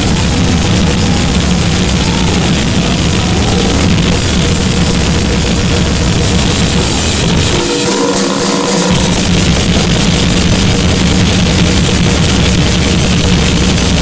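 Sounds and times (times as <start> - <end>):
steady tones: 0.0 - 14.0
wall of distorted noise: 0.0 - 14.0.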